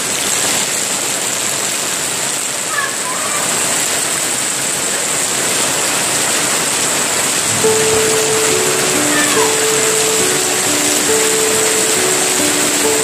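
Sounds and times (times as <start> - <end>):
rain on a wet street: 0.0 - 13.0.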